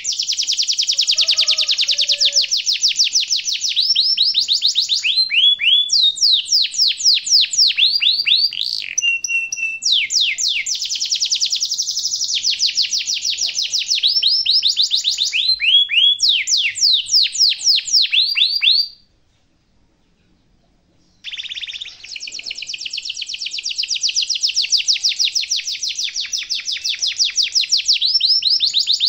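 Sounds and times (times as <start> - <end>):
canary singing: 0.0 - 19.0, 21.0 - 29.0.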